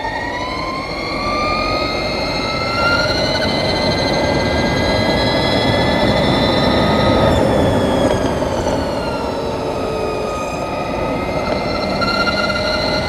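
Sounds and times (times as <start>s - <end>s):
electric motorcycle motor whining: 0.0s - 13.0s
heavy wind: 0.0s - 13.0s.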